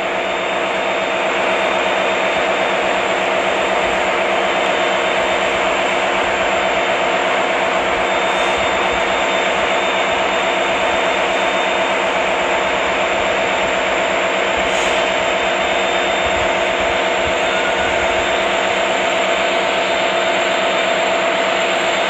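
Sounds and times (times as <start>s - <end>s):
machine engine drone: 0.0s - 22.0s.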